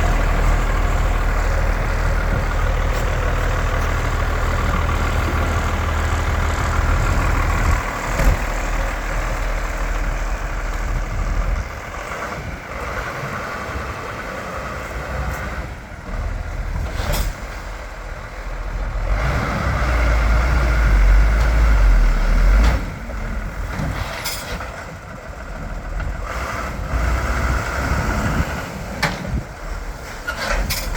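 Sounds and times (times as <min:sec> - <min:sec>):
diesel truck engine running: 0:00.0 - 0:30.9.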